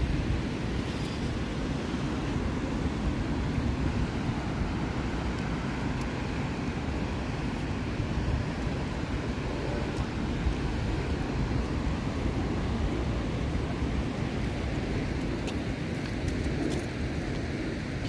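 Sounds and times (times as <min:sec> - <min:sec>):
distant surf: 0:00.0 - 0:18.0
wind rumbling on microphone: 0:00.0 - 0:18.0.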